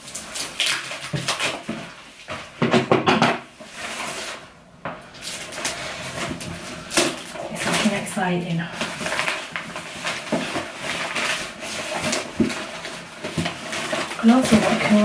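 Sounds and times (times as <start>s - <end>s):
packaging rustling and tearing: 0.0s - 2.7s, 3.6s - 4.5s, 5.1s - 15.0s.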